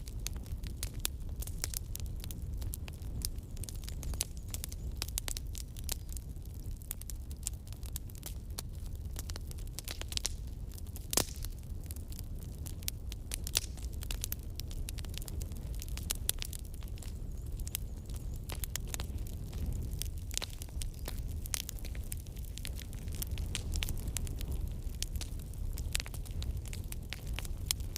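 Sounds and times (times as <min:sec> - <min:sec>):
low rumble of flames: 0:00.0 - 0:27.9
wood crackling and popping: 0:00.0 - 0:27.9.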